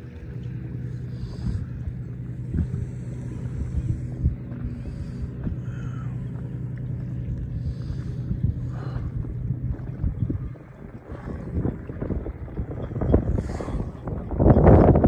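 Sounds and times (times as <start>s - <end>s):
boat engine humming: 0.0s - 15.0s
water splashes: 0.0s - 15.0s.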